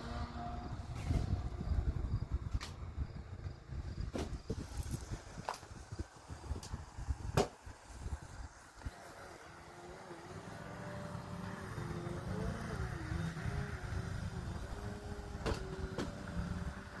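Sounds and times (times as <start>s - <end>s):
model airplane motor droning: 0.0s - 17.0s.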